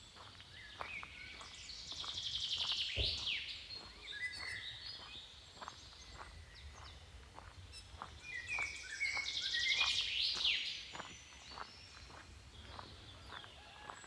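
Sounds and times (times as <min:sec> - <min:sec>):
birds singing: 0:00.0 - 0:14.0
footsteps crunching on path: 0:00.0 - 0:14.0.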